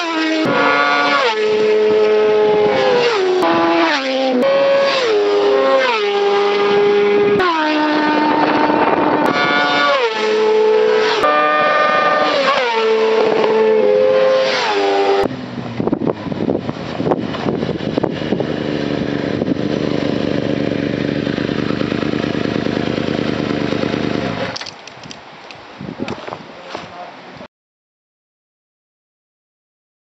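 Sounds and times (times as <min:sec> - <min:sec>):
sportbikes passing at speed: 0:00.0 - 0:24.5
rough engine rumble: 0:00.0 - 0:24.6.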